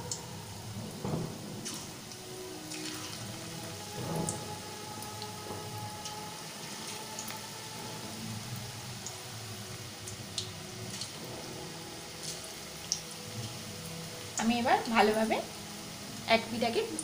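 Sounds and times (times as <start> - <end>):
fritters sizzling in hot oil: 0.0 - 17.0.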